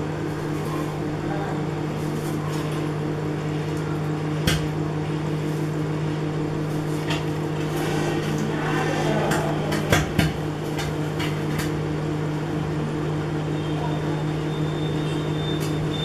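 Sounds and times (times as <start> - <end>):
microwave hum and fan: 0.0 - 16.0.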